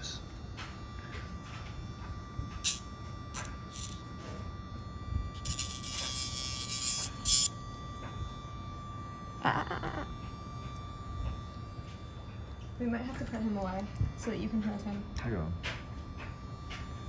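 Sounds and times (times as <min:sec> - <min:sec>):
electric nail grinder humming: 0:00.0 - 0:17.0.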